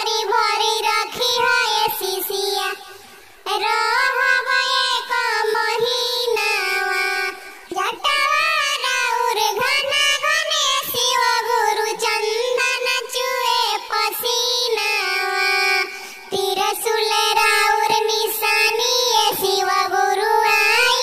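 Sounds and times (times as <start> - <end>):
high-pitched voice singing devotional song: 0.0 - 21.0.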